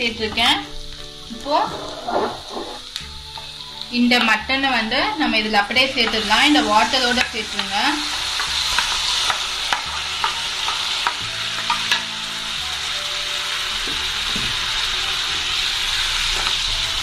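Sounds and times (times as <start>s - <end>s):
meat sizzling in a hot pan: 0.0s - 17.0s.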